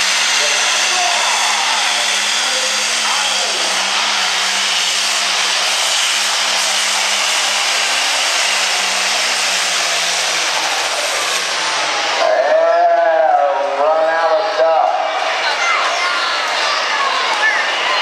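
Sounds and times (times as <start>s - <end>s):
diesel engine running flat out: 0.0s - 15.4s
high whine: 0.0s - 15.5s.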